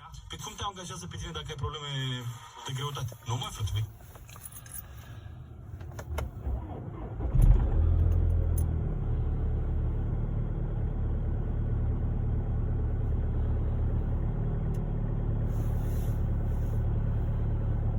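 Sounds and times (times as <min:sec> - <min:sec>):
diesel engine starting and idling: 0:02.3 - 0:17.9.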